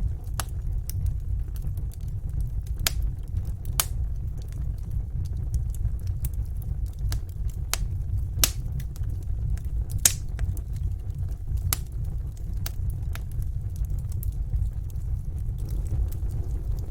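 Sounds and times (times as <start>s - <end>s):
low steady rumble: 0.0s - 16.9s
wood fire crackling and popping: 0.0s - 16.9s.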